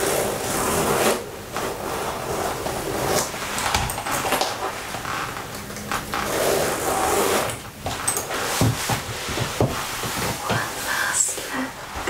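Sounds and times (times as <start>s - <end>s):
fabric rubbing and rustling: 0.0s - 12.0s.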